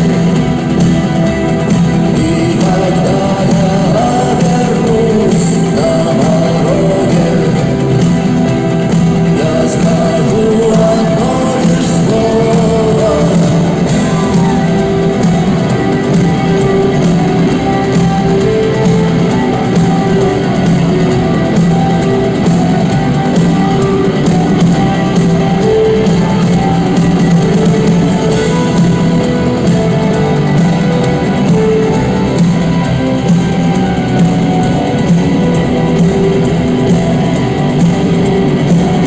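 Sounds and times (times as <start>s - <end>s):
drums: 0.0s - 39.0s
electric guitars: 0.0s - 39.0s
live rock band playing: 0.0s - 39.0s
person singing: 1.6s - 33.2s.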